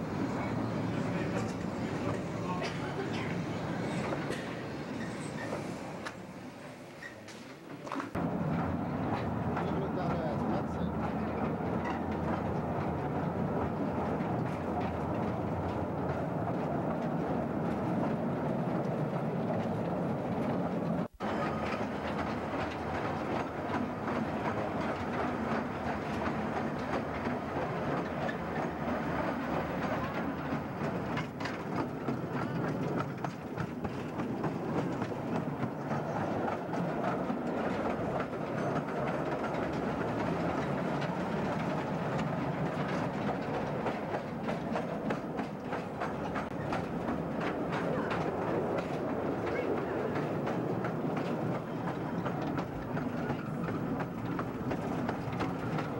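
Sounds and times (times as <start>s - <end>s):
tram wheels rumbling on rails: 0.0s - 55.9s.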